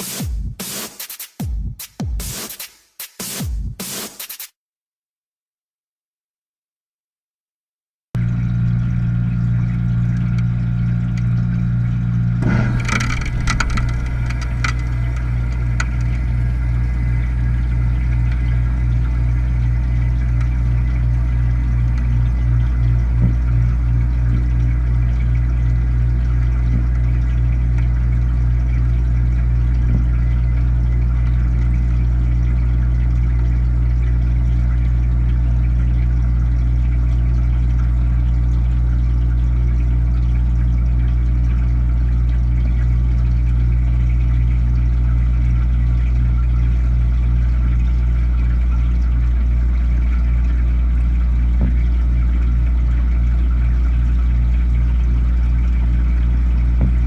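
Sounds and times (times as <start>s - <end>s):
machine humming: 8.2s - 57.0s.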